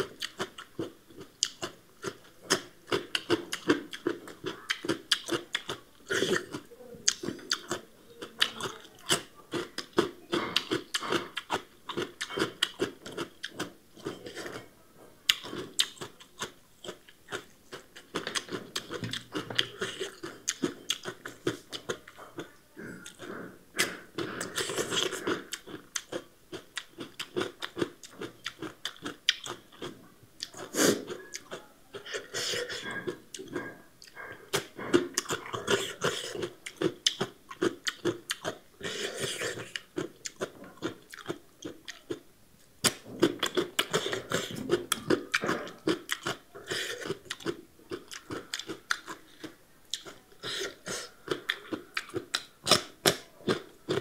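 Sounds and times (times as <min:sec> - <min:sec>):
crunching and wet chewing: 0:00.0 - 0:14.7, 0:15.3 - 0:54.0.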